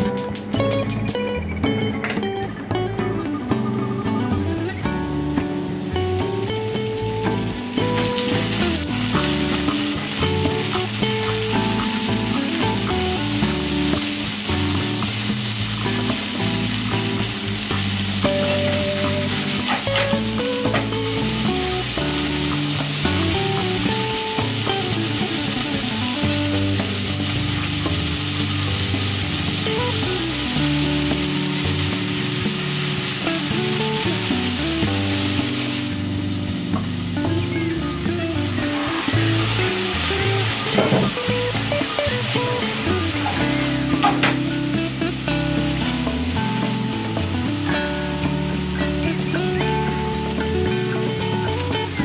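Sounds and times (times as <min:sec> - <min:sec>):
bacon and mushrooms sizzling: 0:03.0 - 0:52.0.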